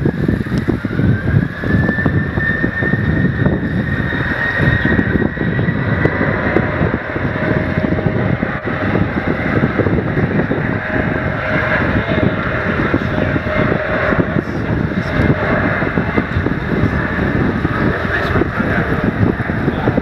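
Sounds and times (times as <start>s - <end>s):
jet engines roaring at takeoff: 0.0s - 20.0s
low engine whine: 0.0s - 20.0s.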